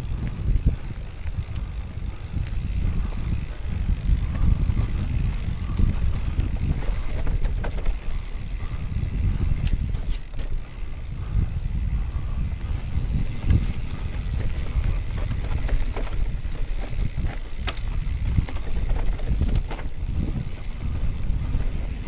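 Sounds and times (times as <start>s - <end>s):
bike clicks and rattles: 0.0s - 22.0s
bike tyre noise: 0.0s - 22.0s
wind rumble on microphone: 0.0s - 22.0s.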